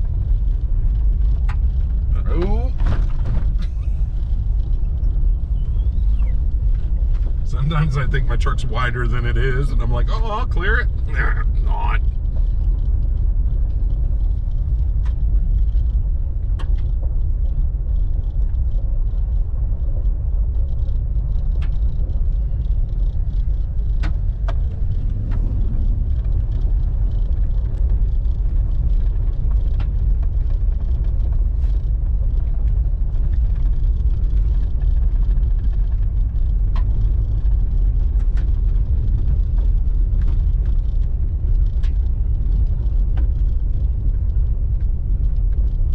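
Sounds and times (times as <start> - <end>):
truck engine and tyres rumbling: 0.0 - 45.9.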